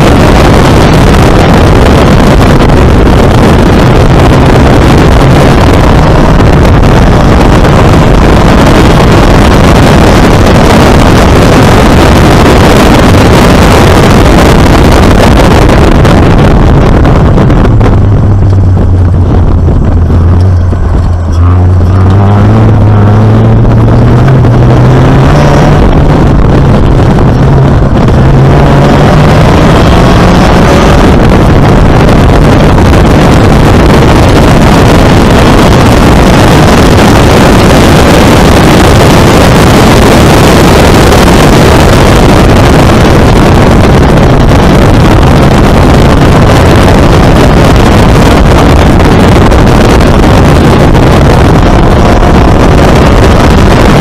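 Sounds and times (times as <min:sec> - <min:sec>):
car engine roaring: 0:00.0 - 0:54.0
wind buffeting microphone: 0:00.0 - 0:54.0.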